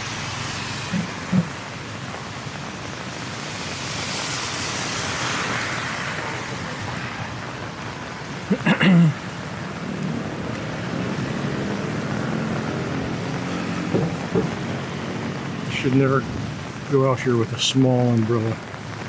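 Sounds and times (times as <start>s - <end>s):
rain pattering on umbrella: 0.0s - 19.0s.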